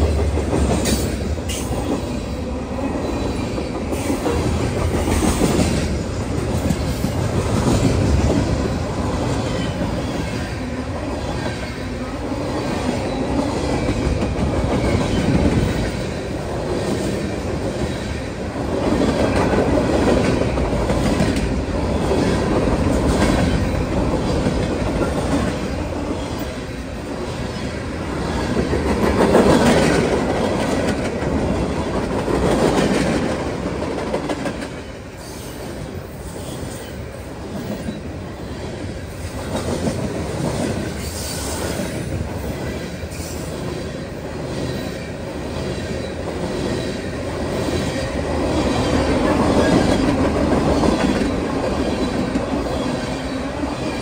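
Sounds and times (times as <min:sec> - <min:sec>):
clickety-clack over rail joints: 0:00.0 - 0:54.0
freight train wheels rumbling: 0:00.0 - 0:54.0.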